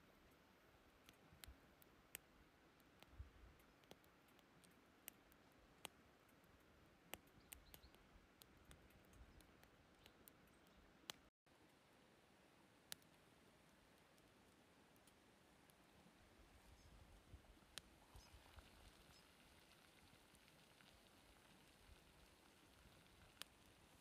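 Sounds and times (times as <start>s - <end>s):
wood crackling in a stove: 0.1s - 24.0s.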